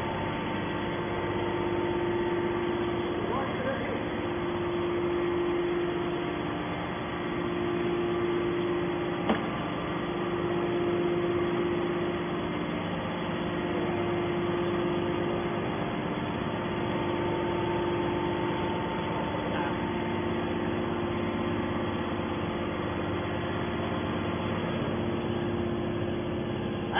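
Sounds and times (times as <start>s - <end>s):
hydraulic power unit humming: 0.0s - 26.9s.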